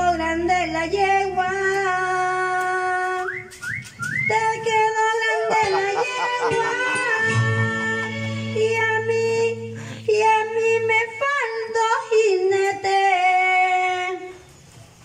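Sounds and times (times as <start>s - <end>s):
woman singing into a microphone: 0.0s - 3.4s, 4.2s - 14.4s
karaoke backing track: 0.0s - 14.4s.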